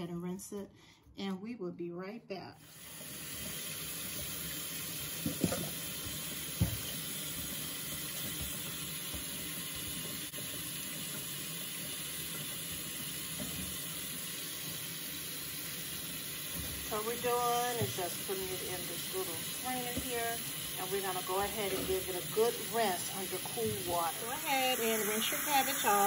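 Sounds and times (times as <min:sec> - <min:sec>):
tap water pouring over cabbage: 0:02.6 - 0:26.0.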